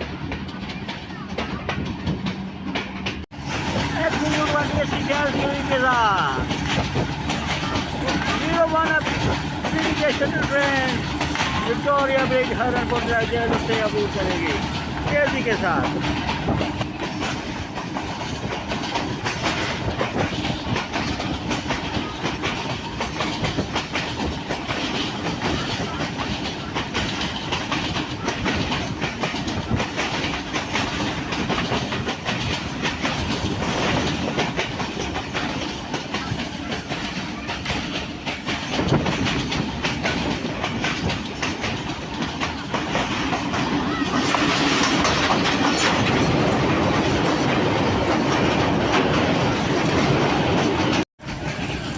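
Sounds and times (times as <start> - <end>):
train wheels clattering on rails: 0.0 - 51.9.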